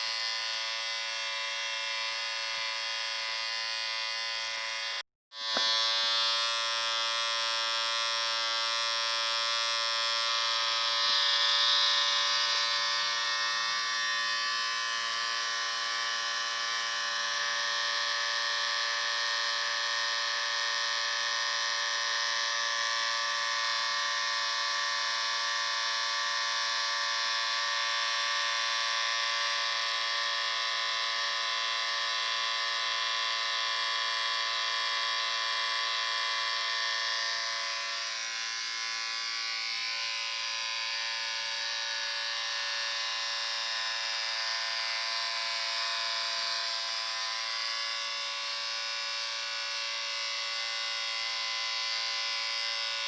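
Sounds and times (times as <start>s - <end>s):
electric shaver buzzing: 0.0s - 53.0s.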